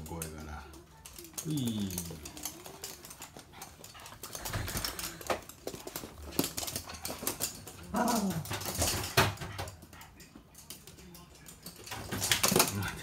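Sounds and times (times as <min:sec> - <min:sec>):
dog claws clicking on hard floor: 0:00.0 - 0:13.0.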